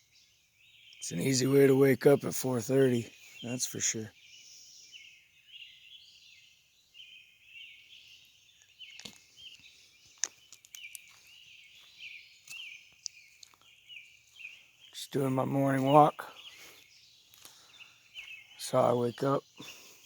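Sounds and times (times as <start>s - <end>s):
songbirds chirping and warbling: 0.0s - 20.0s.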